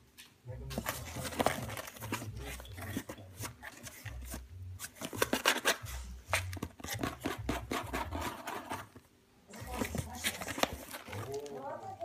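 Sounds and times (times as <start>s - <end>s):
kitten claws scratching cardboard: 0.8s - 9.0s, 9.6s - 11.4s.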